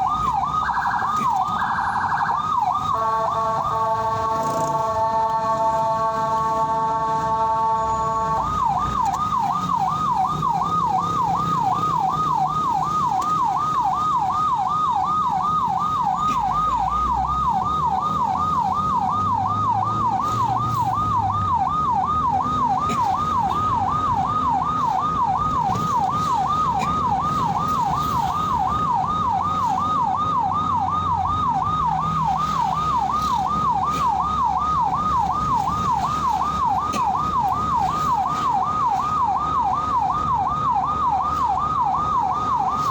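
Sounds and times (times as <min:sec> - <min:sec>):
ambulance siren warbling: 0:00.0 - 0:42.9
road noise: 0:00.0 - 0:42.9
vehicle engine rumble: 0:00.0 - 0:42.9.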